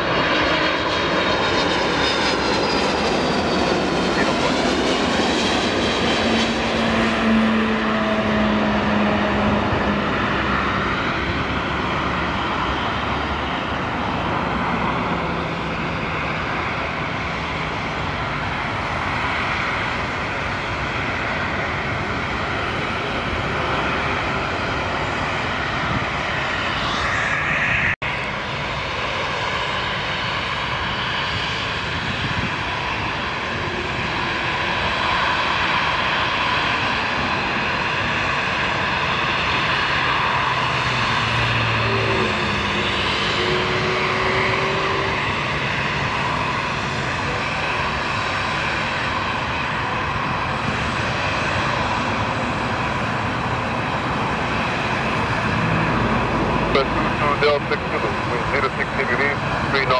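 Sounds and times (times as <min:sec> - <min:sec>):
jet engines of airliner: 0:00.0 - 0:59.9
jet taxiing close by: 0:00.0 - 0:59.9.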